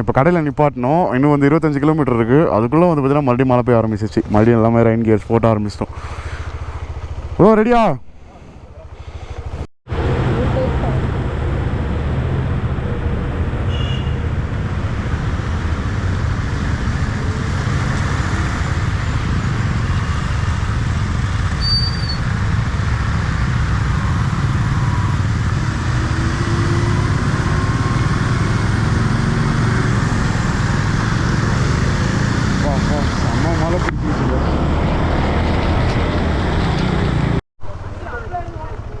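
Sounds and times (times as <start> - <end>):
motorcycle engine: 4.2 - 39.0.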